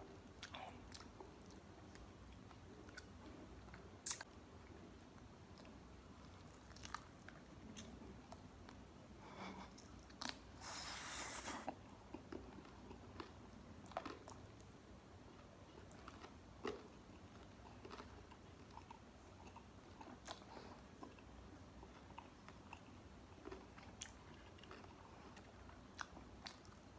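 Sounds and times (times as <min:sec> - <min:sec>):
chewing crispy fried chicken: 0:00.1 - 0:26.9.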